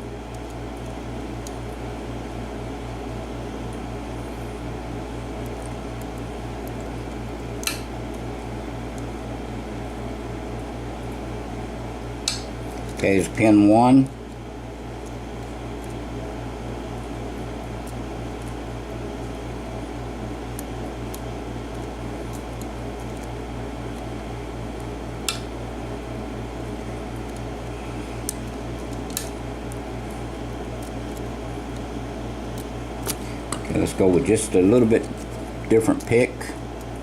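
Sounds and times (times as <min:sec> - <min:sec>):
low pulsing hum: 0:00.0 - 0:37.0.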